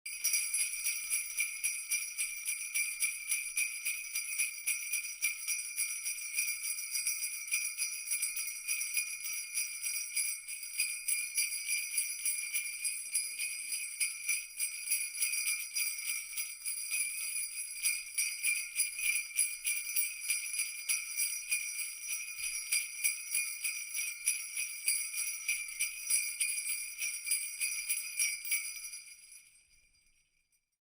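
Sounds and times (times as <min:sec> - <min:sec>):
jingle bells shaken: 0:00.1 - 0:30.8.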